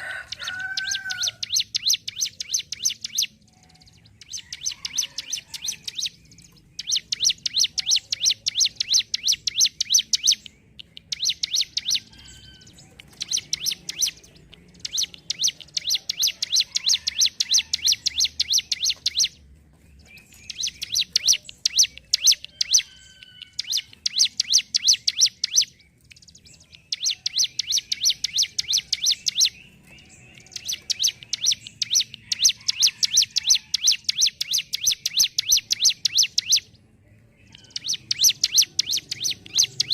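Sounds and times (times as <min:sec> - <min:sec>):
bird singing ticking notes: 0:00.0 - 0:39.9.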